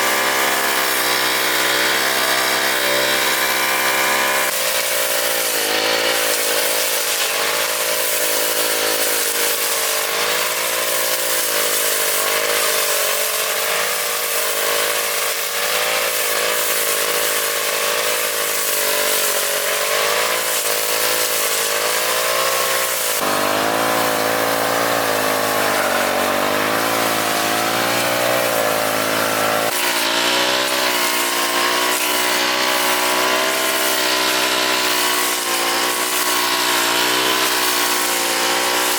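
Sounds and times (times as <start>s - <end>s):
grass cutter petrol engine: 0.0s - 38.9s.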